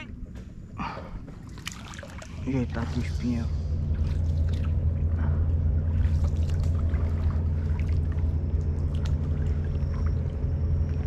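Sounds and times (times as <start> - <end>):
low rumble: 0.0 - 11.0
water trickling and dripping: 1.3 - 5.1, 5.9 - 11.0.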